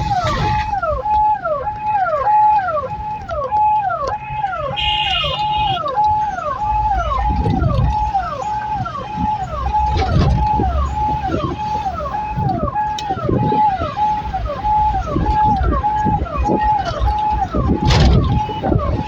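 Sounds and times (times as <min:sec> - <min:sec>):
police siren wailing: 0:00.0 - 0:19.0
traffic and engine rumble: 0:00.0 - 0:19.0.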